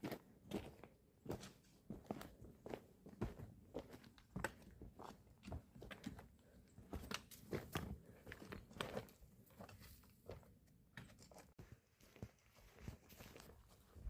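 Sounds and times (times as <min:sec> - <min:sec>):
crunching footsteps on trail: 0:00.0 - 0:14.0.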